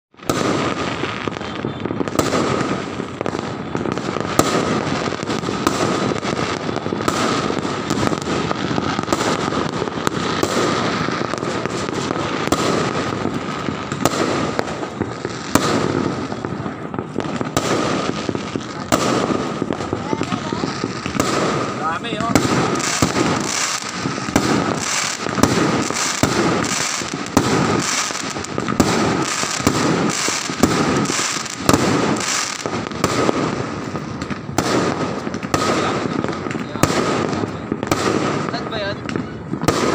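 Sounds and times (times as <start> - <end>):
firework bangs: 0.1 - 39.9
fireworks crackling and popping: 0.1 - 39.9.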